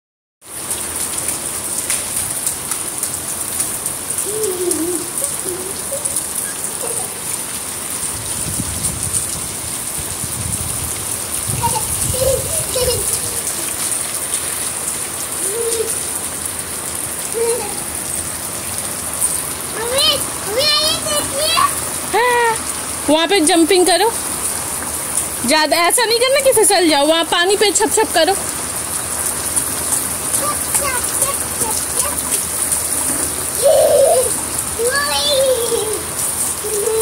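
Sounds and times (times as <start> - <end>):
rain on concrete roof: 0.4 - 37.0.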